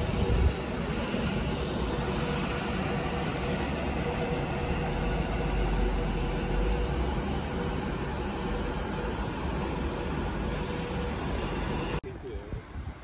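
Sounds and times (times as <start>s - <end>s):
electric train rumbling past: 0.0s - 13.0s.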